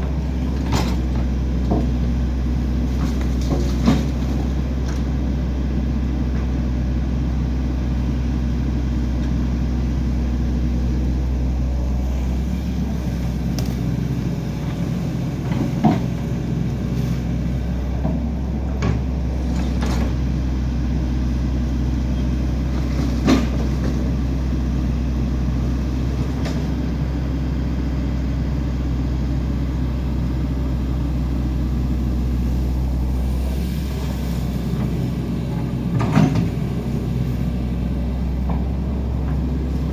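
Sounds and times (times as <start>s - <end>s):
large engine droning: 0.0s - 39.9s.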